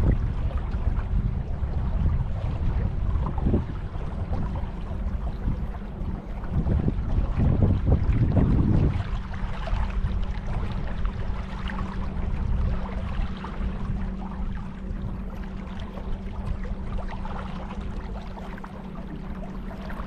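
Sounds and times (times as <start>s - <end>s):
wind noise on microphone: 0.0s - 20.0s.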